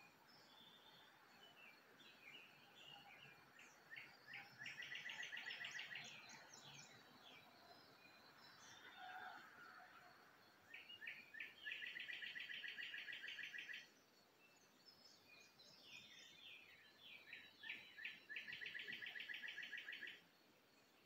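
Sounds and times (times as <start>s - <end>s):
faint background birdsong: 0.0s - 21.0s.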